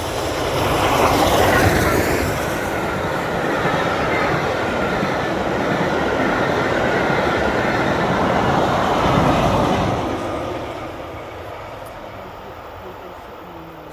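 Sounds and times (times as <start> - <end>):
train wheels rumbling on rails: 0.0 - 13.9.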